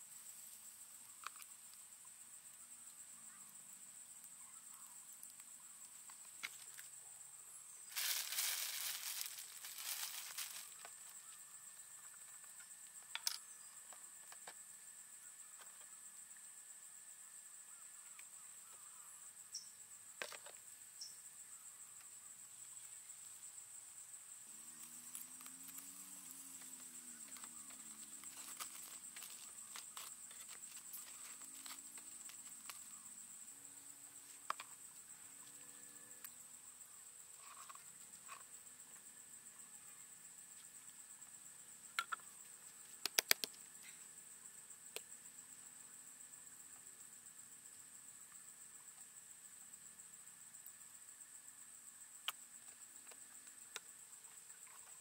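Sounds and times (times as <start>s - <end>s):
rustle: 0.0s - 16.7s, 17.4s - 55.0s
insect chirring: 0.0s - 55.0s.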